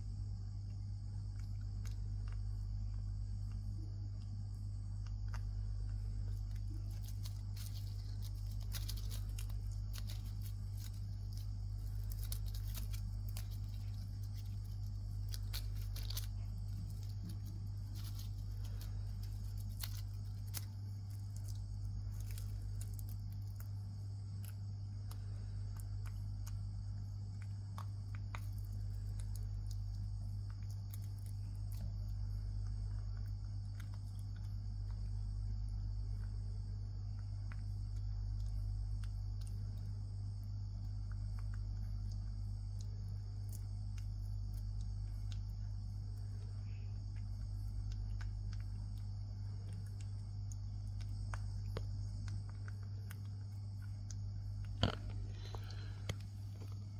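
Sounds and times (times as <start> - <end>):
steady high whine: 0.0 - 56.9
steady low hum: 0.0 - 56.9
monkey chewing insect crunches: 4.9 - 56.9.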